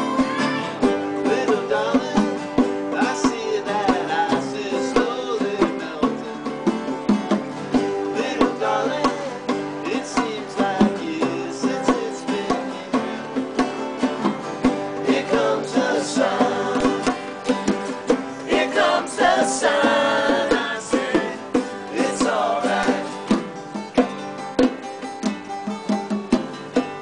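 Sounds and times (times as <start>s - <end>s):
people singing: 0.0s - 6.8s, 7.7s - 13.7s, 14.3s - 23.6s
acoustic guitars strumming: 0.0s - 27.0s.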